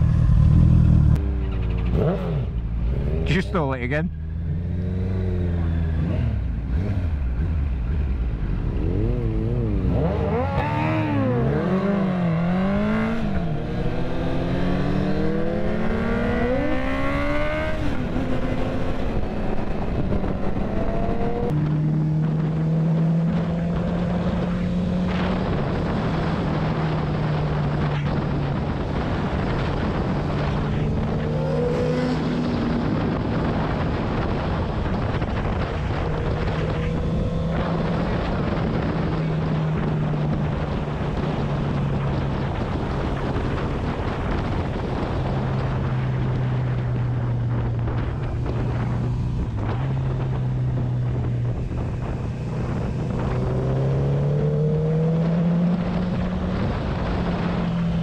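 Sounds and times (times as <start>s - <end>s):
motorcycle engine revving: 0.0s - 58.0s
steady rushing noise: 2.0s - 58.0s.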